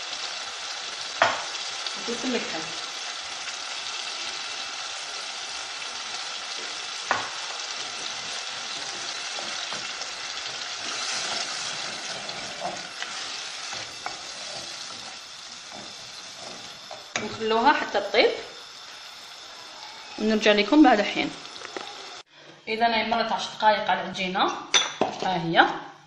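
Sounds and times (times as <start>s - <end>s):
sauce sizzling in a pot: 0.0s - 22.3s.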